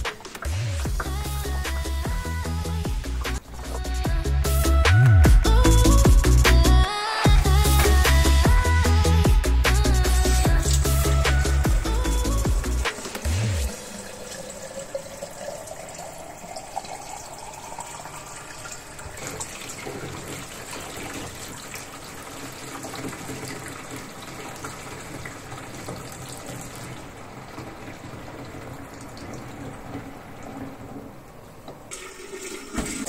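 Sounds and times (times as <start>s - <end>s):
tap water filling a pitcher: 0.0s - 4.1s, 9.8s - 33.0s
water pouring through a funnel: 0.0s - 4.8s, 7.3s - 33.0s.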